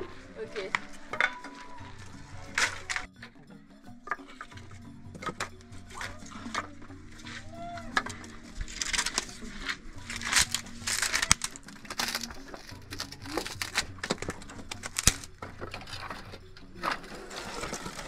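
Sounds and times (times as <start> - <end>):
sticks scraping and knocking: 0.0 - 3.3, 4.0 - 18.0.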